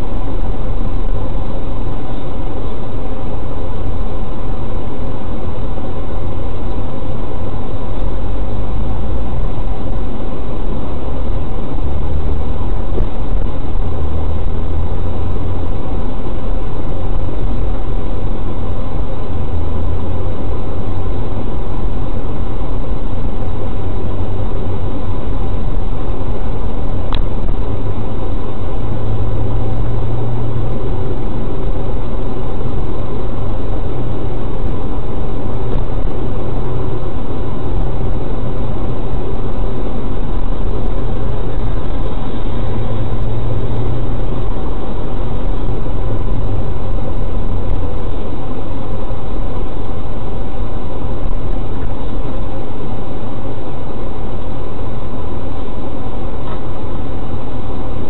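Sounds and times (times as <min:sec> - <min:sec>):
heavy vehicle engine and rumble: 0:00.0 - 0:58.0.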